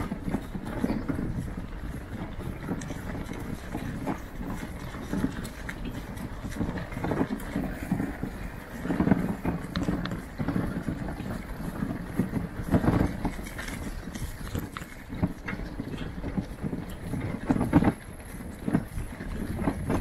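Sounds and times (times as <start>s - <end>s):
bicycle rattling on rough track: 0.0s - 20.0s
low rumble: 0.0s - 20.0s.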